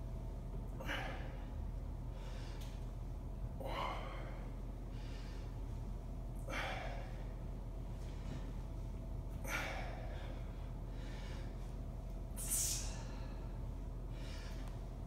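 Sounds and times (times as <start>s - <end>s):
man breathing hard: 0.8s - 2.8s, 3.6s - 5.8s, 6.4s - 8.7s, 9.3s - 15.0s.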